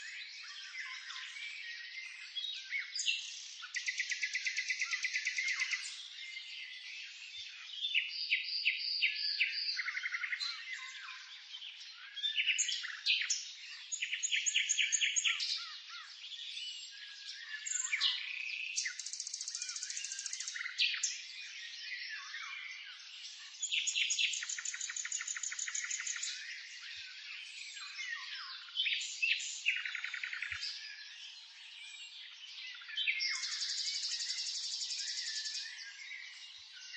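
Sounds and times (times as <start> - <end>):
songbirds singing: 0.0 - 36.9.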